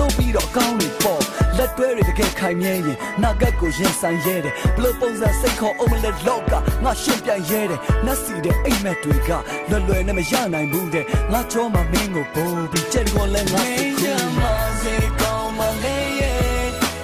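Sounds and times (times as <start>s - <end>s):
rapping over a beat: 0.0s - 17.0s.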